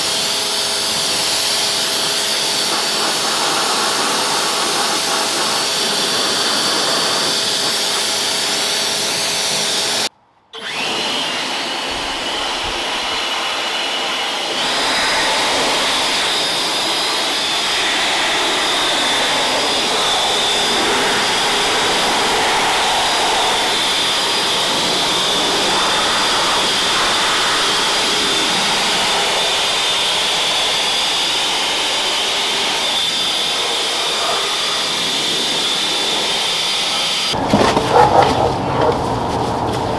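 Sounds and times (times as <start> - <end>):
leaf blower whining: 0.0 - 39.9
pressure washer spraying water: 1.0 - 10.1, 10.7 - 37.4.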